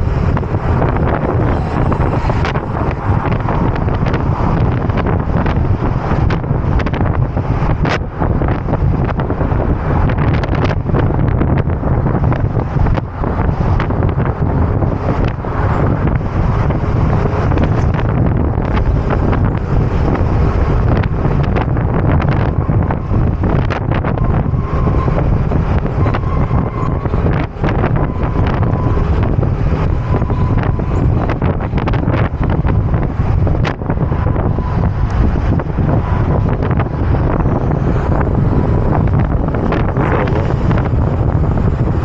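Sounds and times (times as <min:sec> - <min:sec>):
traffic and road noise: 0:00.0 - 0:42.0
wind buffeting microphone: 0:00.0 - 0:42.0.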